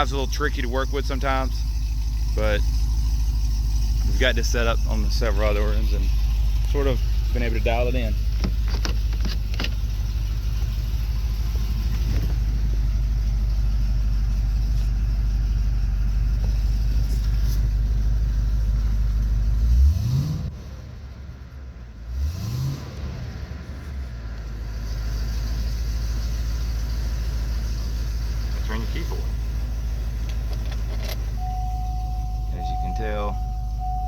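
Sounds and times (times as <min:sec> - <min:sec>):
car engine idling: 0:00.0 - 0:22.3, 0:22.9 - 0:34.0
engine throttle blips: 0:00.0 - 0:34.0.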